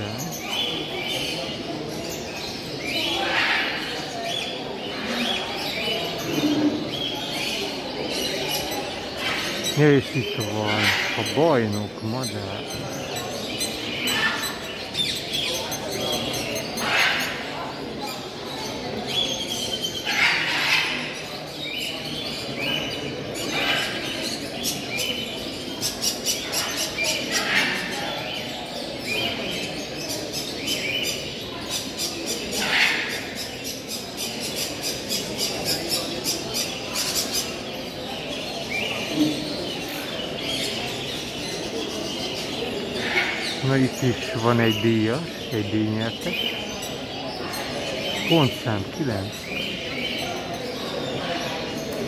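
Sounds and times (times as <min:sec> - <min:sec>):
caged birds chirping and squawking: 0:00.0 - 0:52.0.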